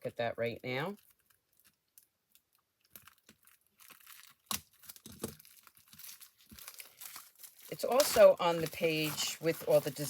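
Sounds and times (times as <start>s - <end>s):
packaging crinkling and tearing: 0.9s - 10.0s.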